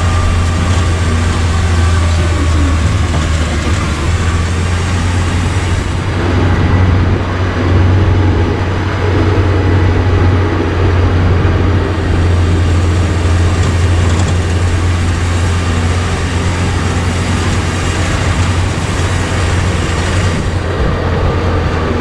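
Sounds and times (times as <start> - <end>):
motor engine droning: 0.0 - 22.0.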